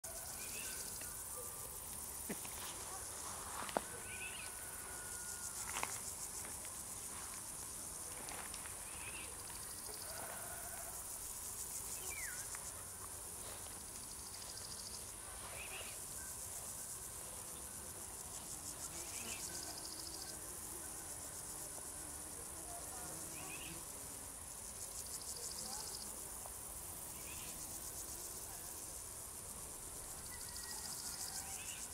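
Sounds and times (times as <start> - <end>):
crickets chorus trilling: 0.0 - 31.9.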